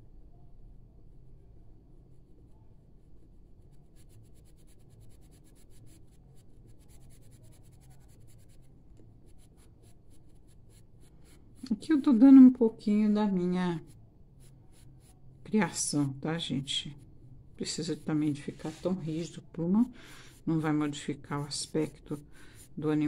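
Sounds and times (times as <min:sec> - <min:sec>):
pencil scratching on paper: 0:02.0 - 0:23.0.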